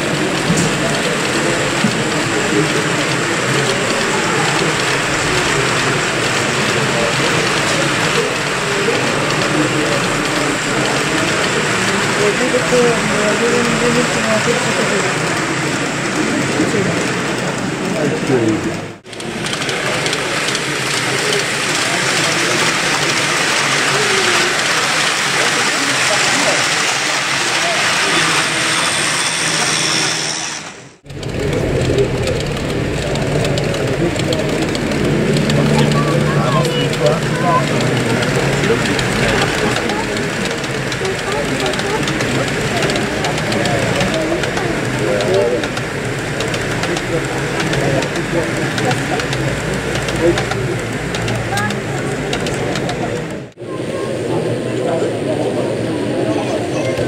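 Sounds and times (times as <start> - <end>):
model train wheels rolling: 0.0 - 53.6.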